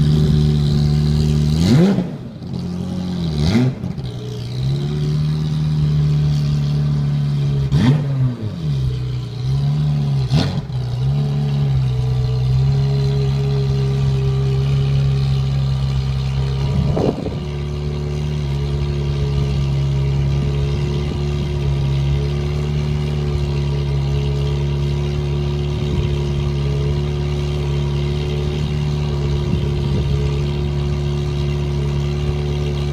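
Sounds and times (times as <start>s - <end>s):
car exhaust idling: 0.0s - 32.9s
engine throttle blips: 0.0s - 32.9s.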